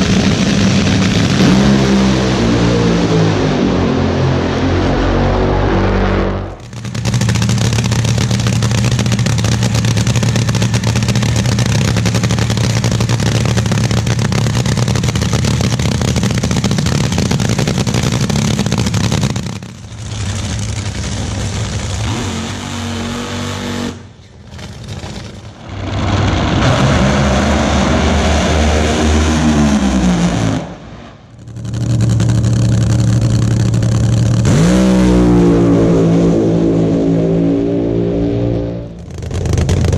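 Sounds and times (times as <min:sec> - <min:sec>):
dragster engines running: 0:00.0 - 0:39.9.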